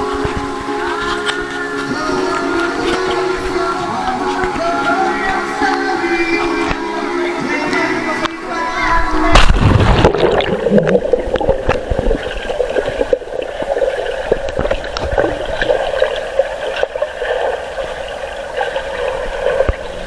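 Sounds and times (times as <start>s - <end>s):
water gurgling and sloshing: 0.0s - 20.0s.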